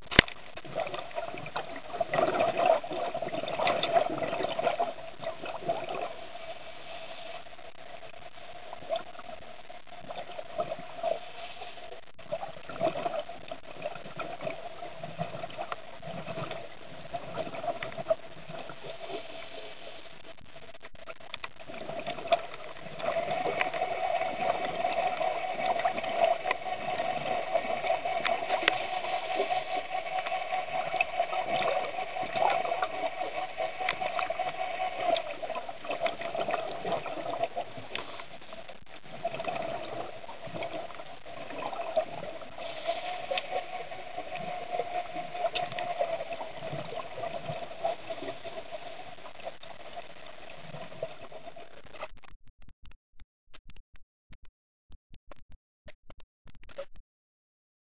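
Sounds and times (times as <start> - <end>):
bubbling underwater noise: 0.0 - 6.6, 7.5 - 19.5, 20.2 - 52.2
steady hum: 0.0 - 52.3.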